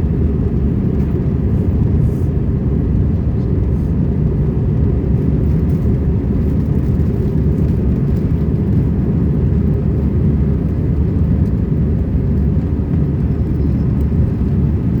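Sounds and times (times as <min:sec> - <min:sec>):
jet cabin rumble: 0:00.0 - 0:15.0.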